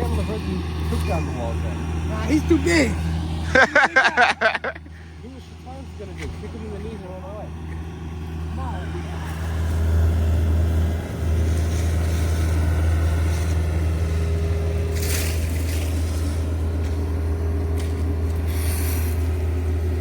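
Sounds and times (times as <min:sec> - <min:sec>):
truck engine droning: 0:00.0 - 0:20.0.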